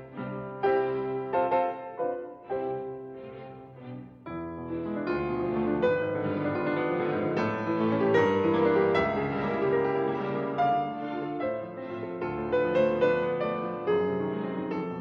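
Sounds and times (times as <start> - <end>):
piano background music: 0.0 - 15.0.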